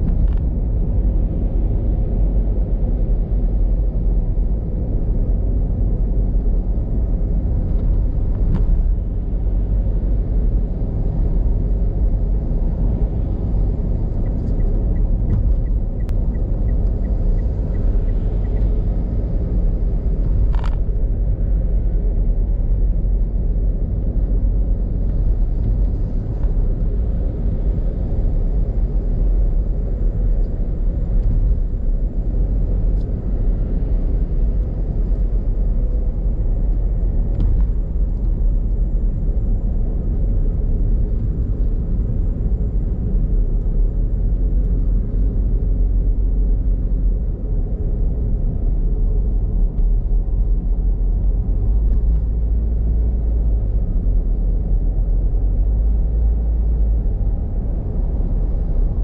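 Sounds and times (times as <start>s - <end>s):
car tyre and wind noise: 0.0s - 59.0s.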